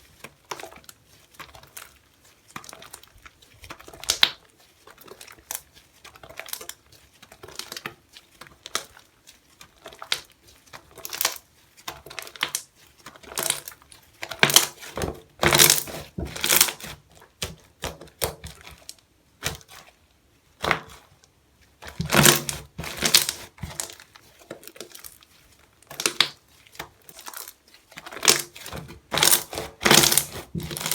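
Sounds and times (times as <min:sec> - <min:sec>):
slime clicking and crackling: 0:00.2 - 0:19.9, 0:21.9 - 0:25.2, 0:25.9 - 0:30.9.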